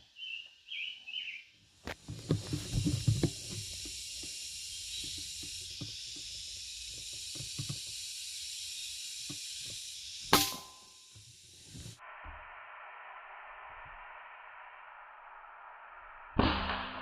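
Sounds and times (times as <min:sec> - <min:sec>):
high-pitched outdoor hiss: 0:00.0 - 0:17.0.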